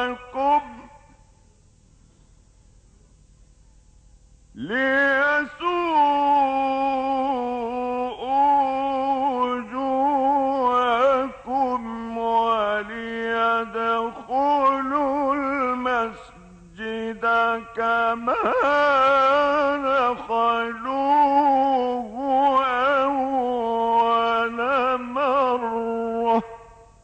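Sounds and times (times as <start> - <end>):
man reciting melodically: 0.0 - 1.2, 4.5 - 27.0.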